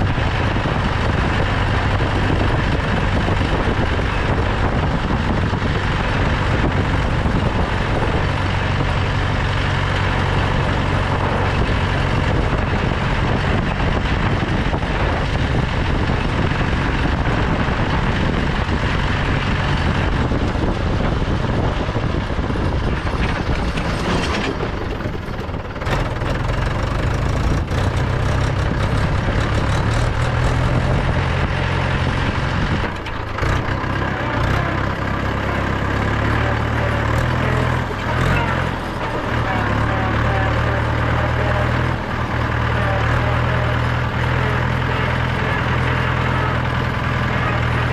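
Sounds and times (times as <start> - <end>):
rattle and road noise: 0.0 - 47.9
tractor diesel engine running: 0.0 - 47.9.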